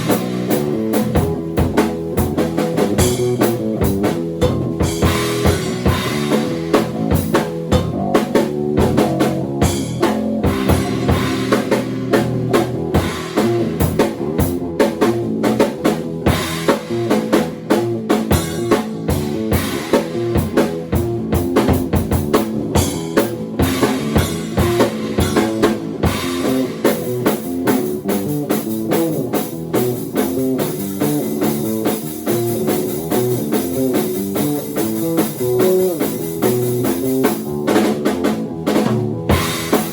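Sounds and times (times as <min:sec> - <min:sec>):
bass line: 0:00.0 - 0:39.9
busy drumming: 0:00.0 - 0:39.9.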